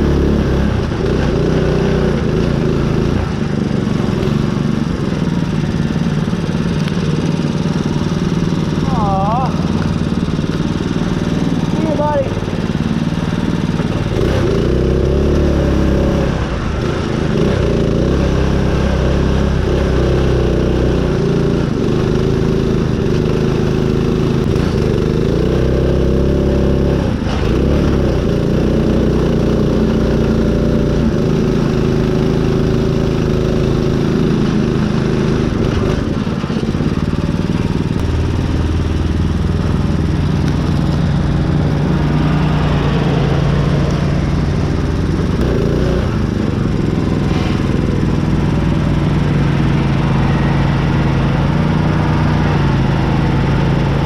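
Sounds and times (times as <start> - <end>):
small engine labouring: 0.0 - 54.0.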